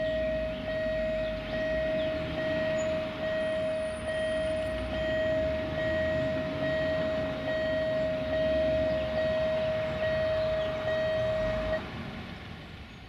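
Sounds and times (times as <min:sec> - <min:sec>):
level crossing warning beeping: 0:00.0 - 0:12.2.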